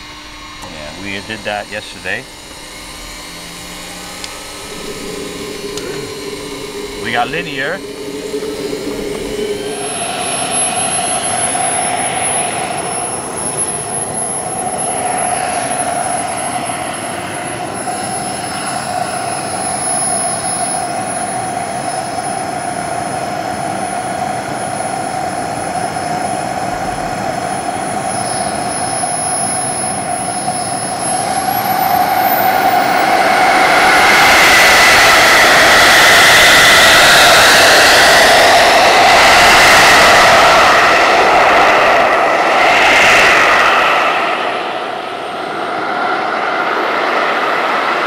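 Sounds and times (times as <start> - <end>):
jet turbine engine whine: 0.0 - 48.0.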